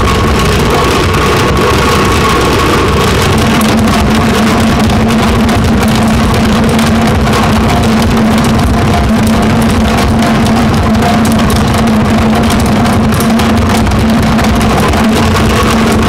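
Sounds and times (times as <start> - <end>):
loud engine-like noise drone: 0.0 - 16.0.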